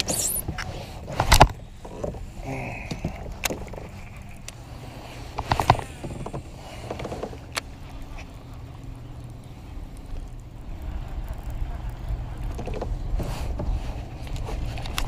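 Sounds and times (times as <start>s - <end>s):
low rumble of wind: 0.0s - 15.0s
water: 0.0s - 15.0s.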